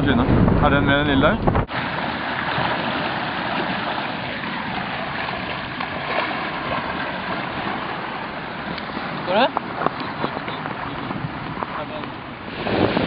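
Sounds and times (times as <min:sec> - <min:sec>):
water rushing along a hull: 0:00.0 - 0:13.0.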